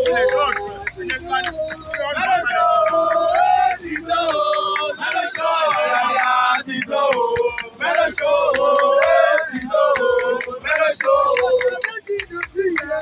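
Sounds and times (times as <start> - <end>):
young voices singing a chant: 0.0 - 11.8.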